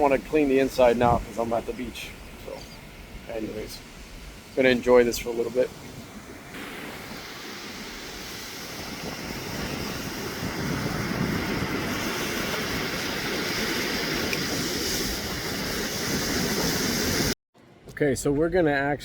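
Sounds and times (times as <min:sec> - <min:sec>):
ocean surf washing ashore: 0:00.0 - 0:17.4.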